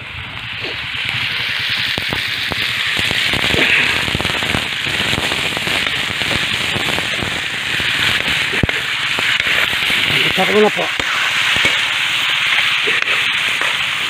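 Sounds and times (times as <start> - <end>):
pork frying in oil: 0.0 - 14.0
crackling oil pops: 0.3 - 14.0.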